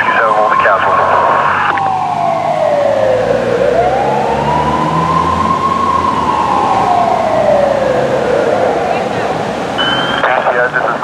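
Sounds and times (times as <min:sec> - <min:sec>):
fire truck siren wailing: 0:00.0 - 0:11.0
yelping siren: 0:00.0 - 0:11.0.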